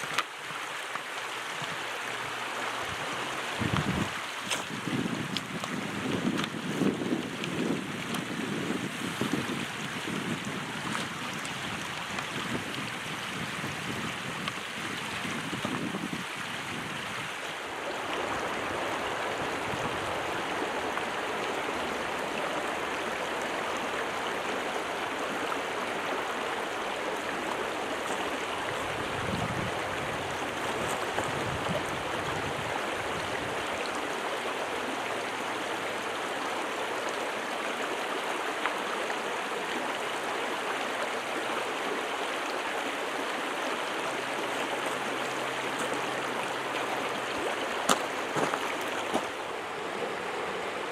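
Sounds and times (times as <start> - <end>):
stream babbling: 0.0 - 50.9.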